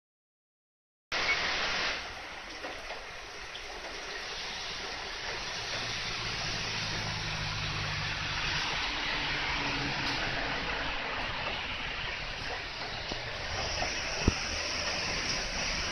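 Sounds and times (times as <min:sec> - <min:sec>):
steady rain: 0:01.2 - 0:15.9
diesel railcar engine drone: 0:02.0 - 0:15.9.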